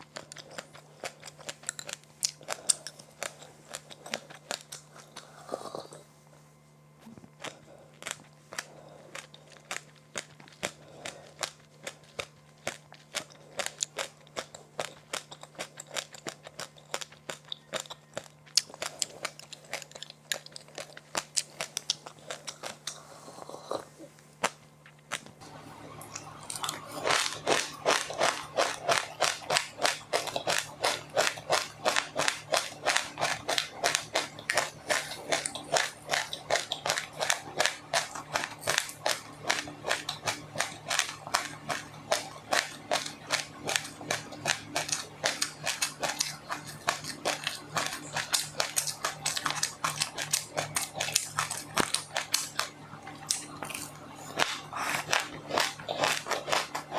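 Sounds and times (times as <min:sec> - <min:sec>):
crunchy snack chewing: 0:00.0 - 0:06.1, 0:07.0 - 0:56.9
faint low hum: 0:00.0 - 0:56.9.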